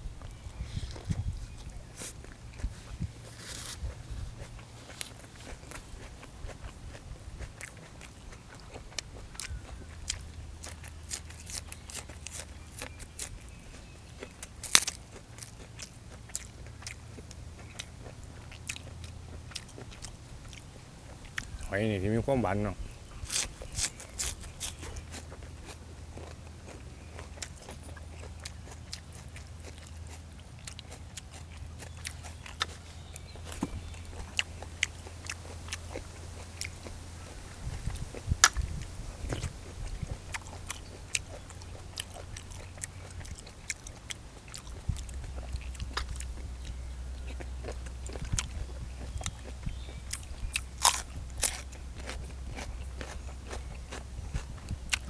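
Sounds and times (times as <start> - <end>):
person chewing and crunching food: 0.0 - 55.0.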